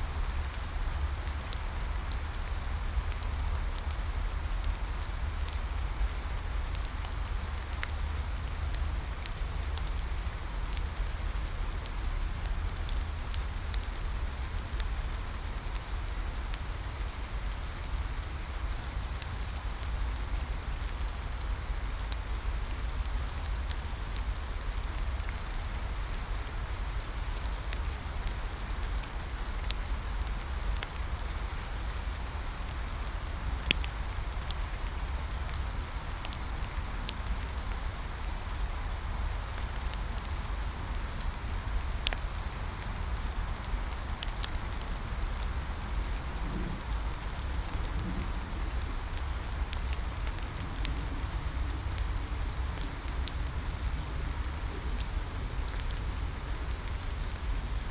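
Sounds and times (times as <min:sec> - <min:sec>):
steady rain falling: 0:00.0 - 0:57.9
bonfire crackling pops: 0:00.4 - 0:57.9.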